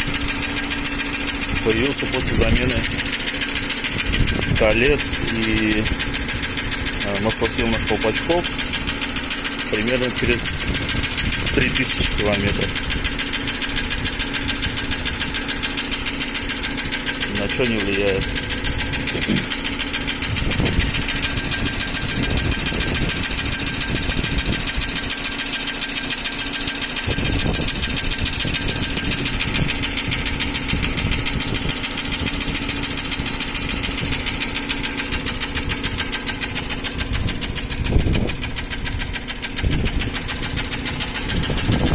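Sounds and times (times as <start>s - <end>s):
fast regular engine knocking: 0.0s - 41.9s
petrol engine running: 0.0s - 41.9s.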